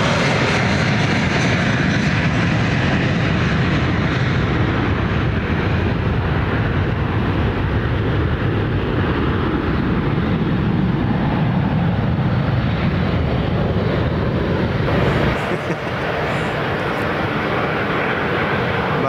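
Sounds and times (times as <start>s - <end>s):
jet engines rumbling at takeoff: 0.0s - 19.0s.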